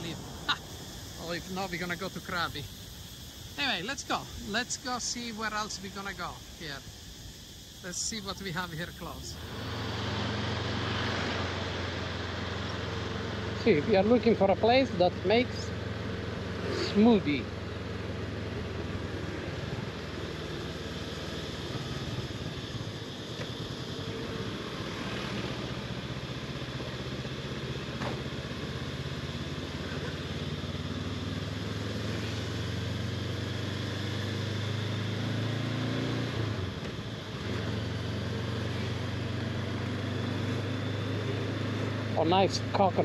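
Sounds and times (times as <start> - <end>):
motorcycle engine running: 0.0 - 43.0
road hiss: 0.0 - 43.0
wind: 0.0 - 43.0.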